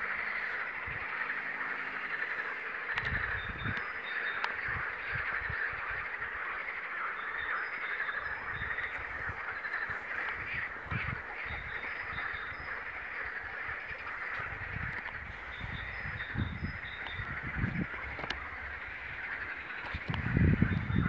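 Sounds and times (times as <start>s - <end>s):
chorus of frogs calling: 0.0s - 21.0s
wind rumble on microphone: 0.0s - 21.0s.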